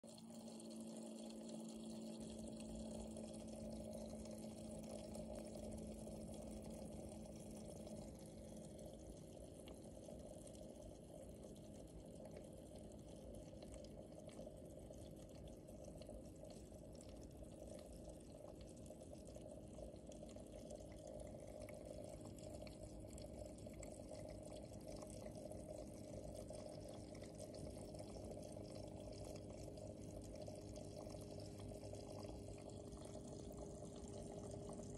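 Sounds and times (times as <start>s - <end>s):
faint steady hum: 0.0s - 34.9s
water trickling into tank: 0.0s - 34.9s.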